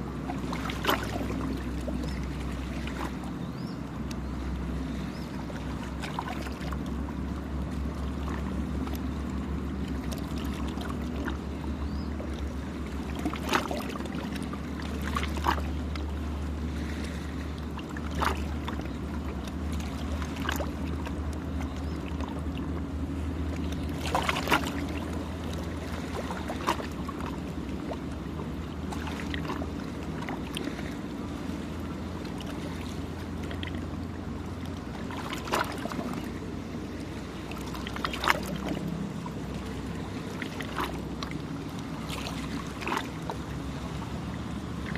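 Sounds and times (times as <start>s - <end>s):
low engine drone: 0.0s - 44.9s
short splashes: 0.0s - 44.9s
waves lapping at shore: 0.0s - 44.9s.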